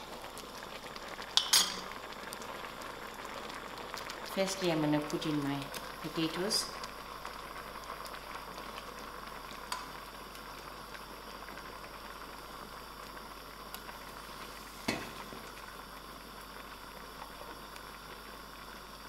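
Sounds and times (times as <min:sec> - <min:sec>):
pot of beans boiling: 0:00.0 - 0:19.0.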